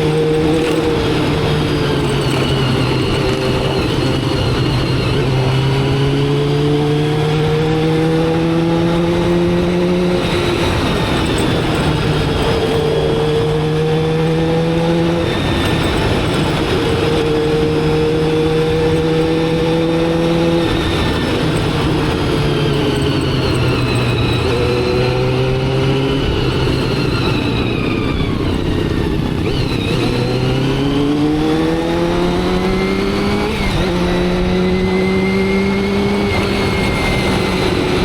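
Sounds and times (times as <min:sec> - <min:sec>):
motorcycle engine shifting gears: 0:00.0 - 0:38.0
wind and road noise: 0:00.0 - 0:38.0.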